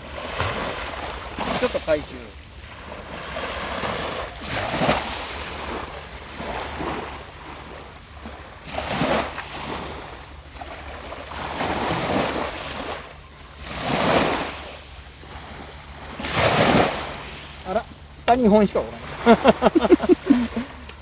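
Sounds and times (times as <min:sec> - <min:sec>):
small waves washing on shore: 0:00.0 - 0:21.0.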